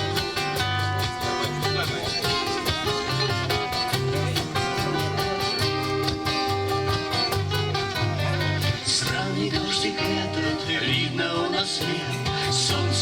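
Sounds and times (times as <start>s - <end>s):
acoustic guitar strumming: 0.0s - 13.0s
low bass notes: 0.0s - 13.0s.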